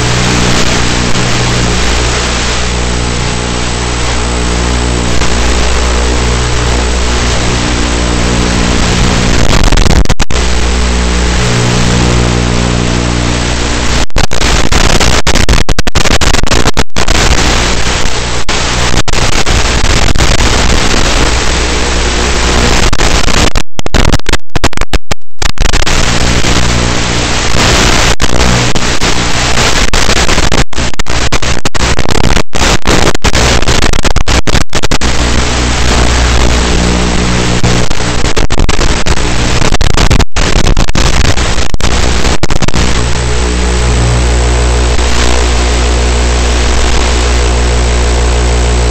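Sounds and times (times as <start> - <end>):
rushing wind noise: 0.0 - 24.8, 25.5 - 48.9.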